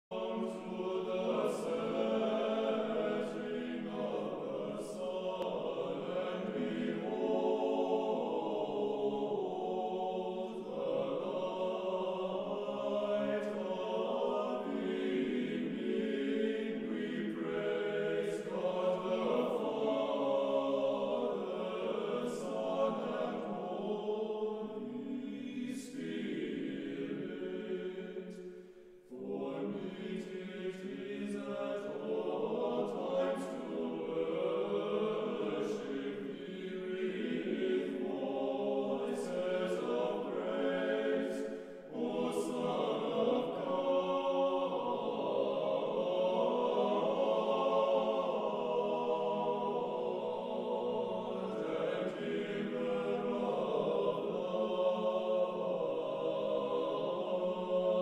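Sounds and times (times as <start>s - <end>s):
choir singing liturgical chant: 0.1s - 58.0s.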